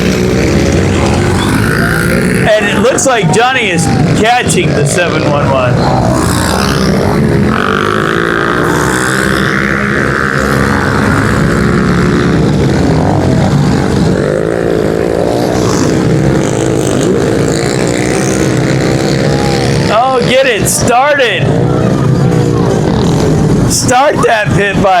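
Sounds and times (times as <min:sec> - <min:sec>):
pit bike engines revving: 0:00.0 - 0:25.0.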